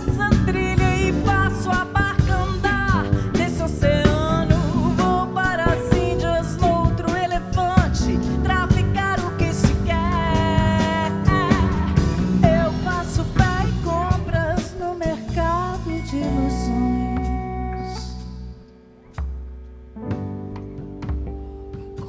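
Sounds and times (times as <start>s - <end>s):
woman singing pop song: 0.0s - 18.2s
live band playing: 0.0s - 22.0s.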